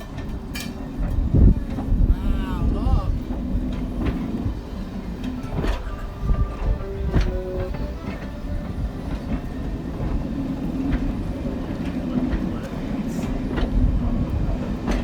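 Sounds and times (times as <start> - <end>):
wheels clicking over rails: 0.0 - 2.1, 3.1 - 15.0
train rumble and hum: 0.0 - 15.0.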